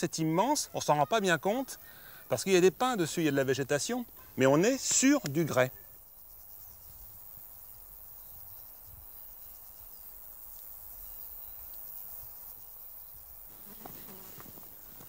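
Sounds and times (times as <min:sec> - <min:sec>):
insect buzz: 0:00.0 - 0:15.0.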